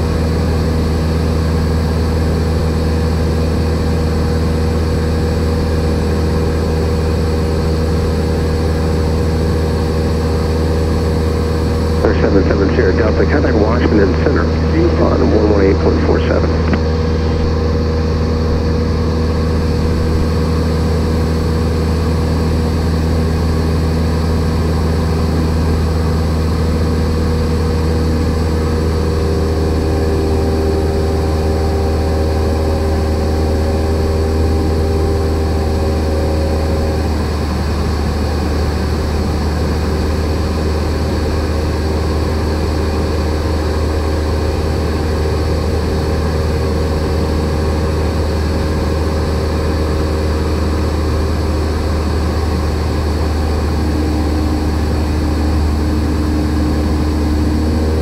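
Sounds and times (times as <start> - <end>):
propeller aircraft engine drone: 0.0 - 58.0.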